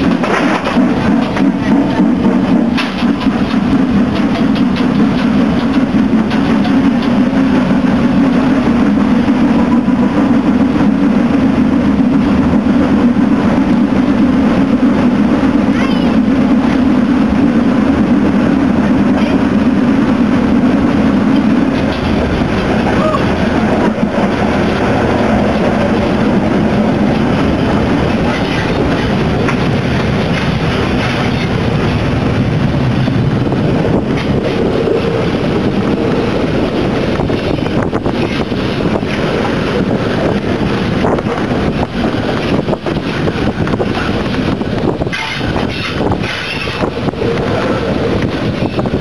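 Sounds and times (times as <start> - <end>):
steam: 0.0 - 49.0
wheels on rails: 0.0 - 49.0.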